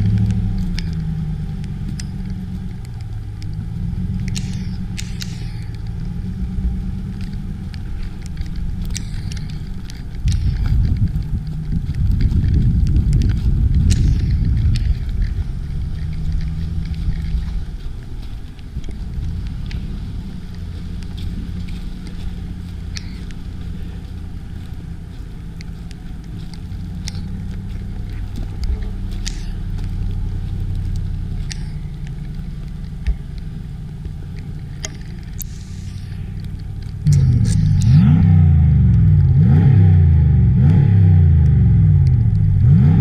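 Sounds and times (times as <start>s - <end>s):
faint ticks: 0.0s - 38.3s
truck engine at low revs: 0.0s - 43.0s.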